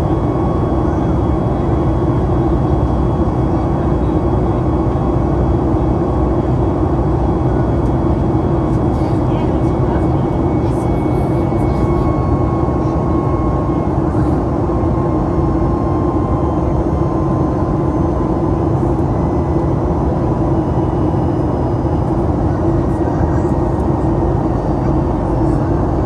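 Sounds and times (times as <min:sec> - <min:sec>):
jet engine drone in cabin: 0:00.0 - 0:26.0.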